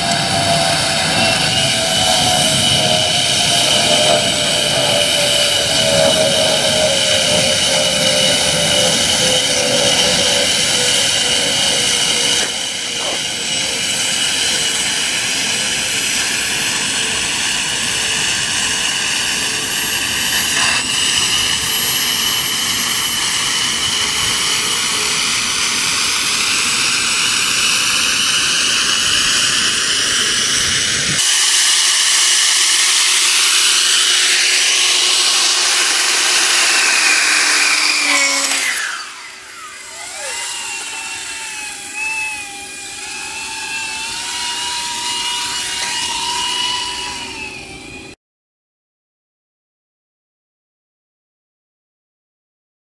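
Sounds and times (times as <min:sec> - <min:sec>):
suction fan whine: 0:00.0 - 0:48.2.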